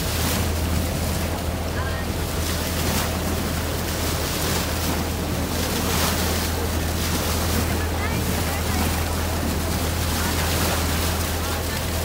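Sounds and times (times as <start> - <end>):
boat engine hum: 0.0 - 12.0
water splashing at bow: 0.0 - 12.0.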